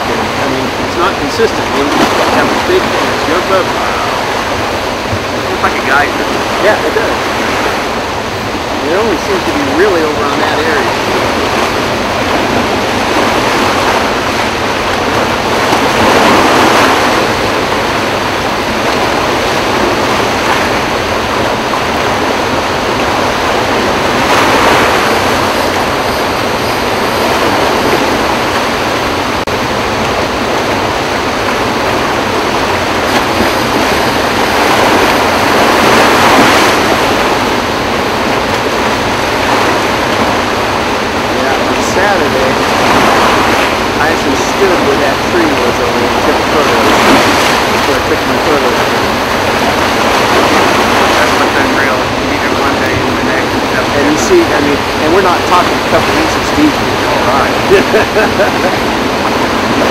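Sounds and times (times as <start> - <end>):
water rushing through spillway: 0.0 - 59.9.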